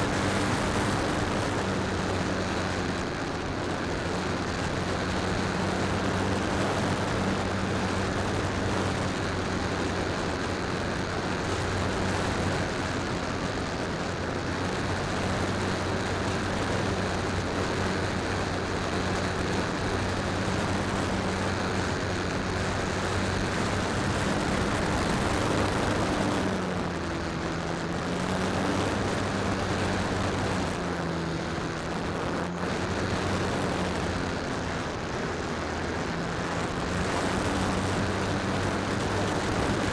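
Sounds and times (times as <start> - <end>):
electric motor and propeller drone: 0.0 - 39.9
rushing wind noise: 0.0 - 39.9.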